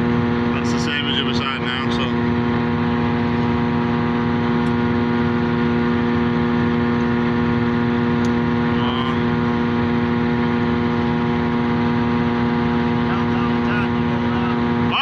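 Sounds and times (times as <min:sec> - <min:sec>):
forage harvester droning: 0:00.0 - 0:15.0.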